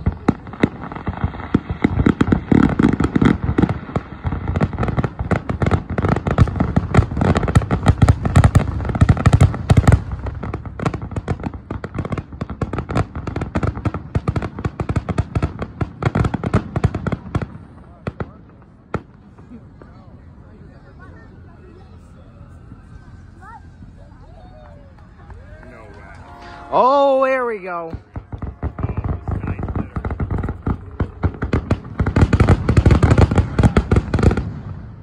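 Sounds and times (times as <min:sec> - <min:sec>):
fireworks crackling pops: 0:00.0 - 0:20.0, 0:22.8 - 0:35.0.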